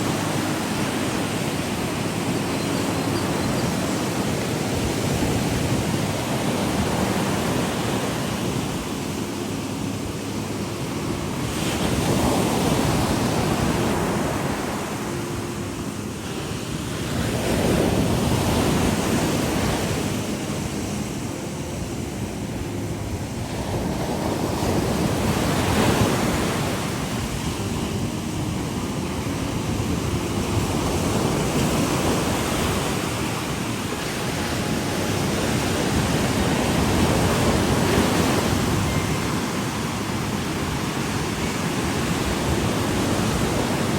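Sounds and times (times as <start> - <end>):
waves washing in: 0.0 - 43.9.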